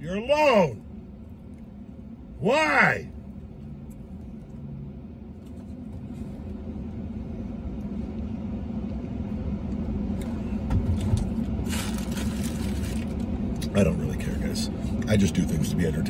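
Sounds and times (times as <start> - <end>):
vehicle idling rumble: 0.0 - 16.0.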